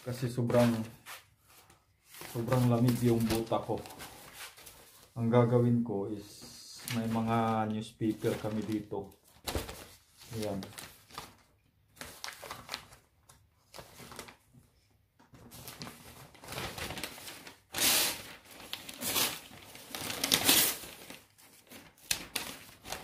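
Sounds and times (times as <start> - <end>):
newspaper rustling and crumpling: 0.0 - 5.3, 6.2 - 23.0.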